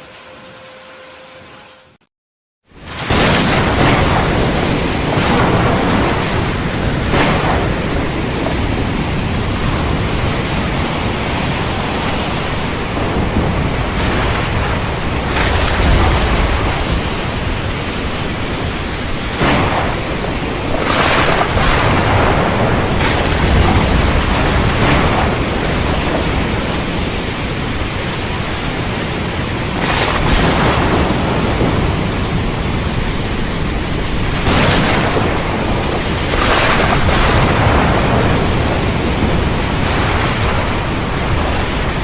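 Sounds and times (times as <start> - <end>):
heavy rain: 2.7 - 42.0
thunder claps and rumbles: 2.8 - 42.0.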